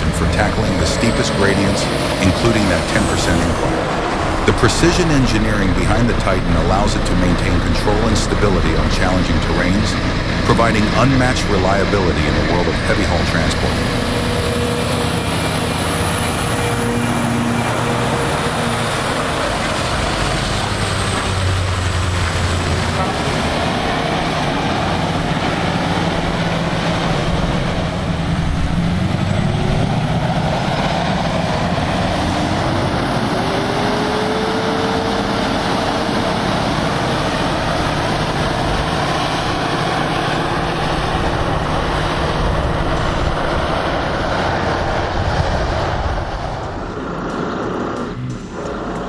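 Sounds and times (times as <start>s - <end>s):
rising whine: 0.0s - 49.0s
road noise: 0.0s - 49.0s
truck diesel engine under load: 0.0s - 49.0s.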